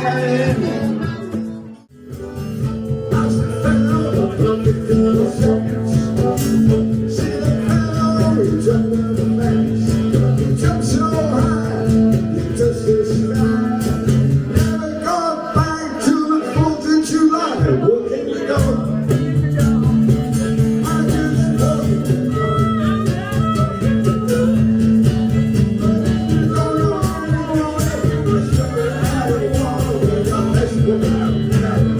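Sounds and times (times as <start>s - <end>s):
live guitar music: 0.0s - 31.9s.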